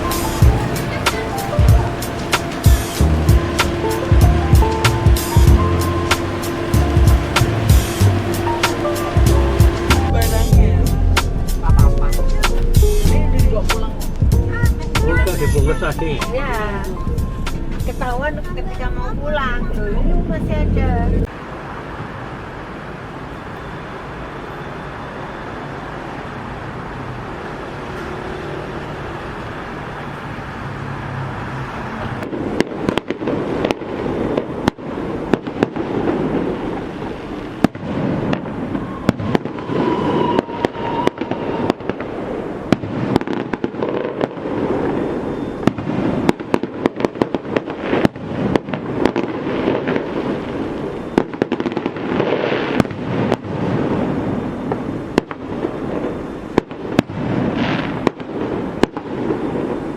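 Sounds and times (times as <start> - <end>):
firecrackers banging: 0.0 - 19.6, 31.4 - 59.9
street noise: 0.0 - 59.9.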